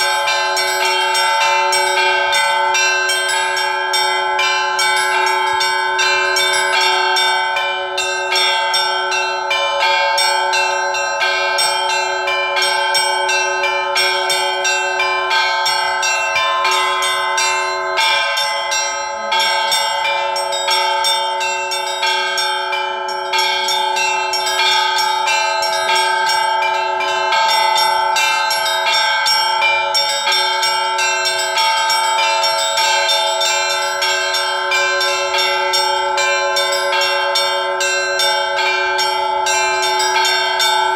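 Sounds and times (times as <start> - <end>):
large bells ringing: 0.0 - 40.9
small bells striking rapidly: 0.0 - 40.9.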